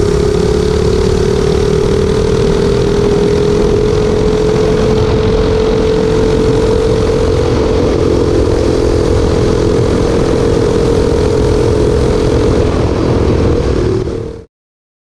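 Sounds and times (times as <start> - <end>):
small engine running: 0.0 - 14.4
wind on microphone: 0.0 - 14.5.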